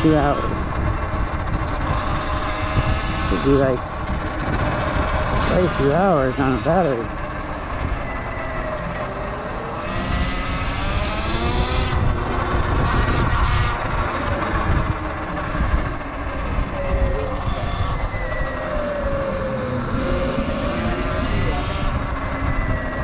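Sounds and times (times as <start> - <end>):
electric motorbike motor whining: 0.0 - 23.0
wind and road noise: 0.0 - 23.0.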